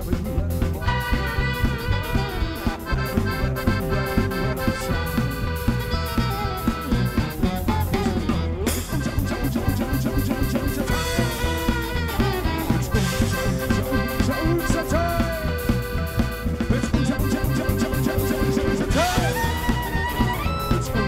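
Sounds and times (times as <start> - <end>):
accordion: 0.0 - 21.0
drum kit beat: 0.0 - 21.0.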